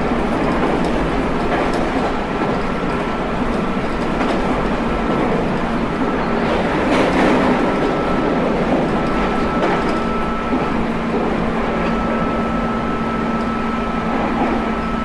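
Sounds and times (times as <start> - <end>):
rail-joint clicks: 0.0 - 15.0
train wheels rumbling on rail: 0.0 - 15.0.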